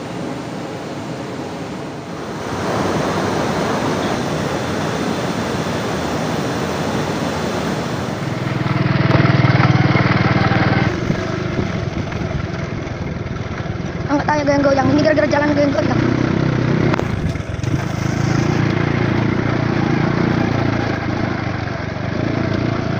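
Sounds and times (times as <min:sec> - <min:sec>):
vehicle engine hum: 0:00.0 - 0:22.9
wind and road noise: 0:00.0 - 0:22.9.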